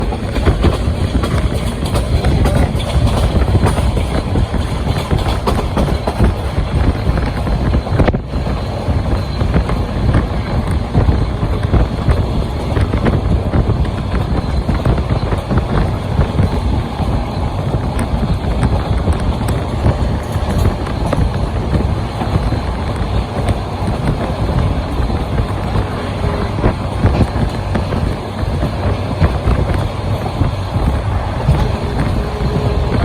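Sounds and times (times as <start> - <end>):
clicks and rattles of train: 0.0 - 33.0
train rumbling along track: 0.0 - 33.0.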